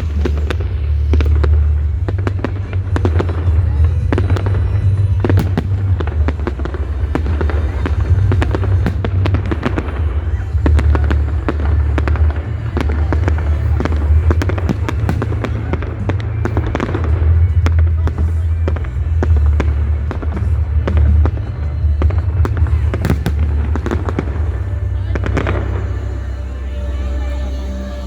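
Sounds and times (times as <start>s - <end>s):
fireworks bangs and crackles: 0.0s - 28.0s
low rumble: 0.0s - 28.0s.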